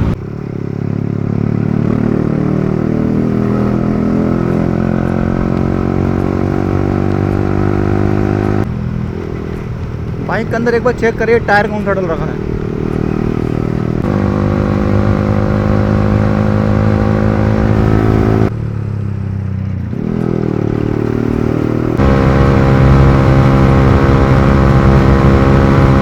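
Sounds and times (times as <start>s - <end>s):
motorcycle engine with loud exhaust: 0.0s - 26.0s.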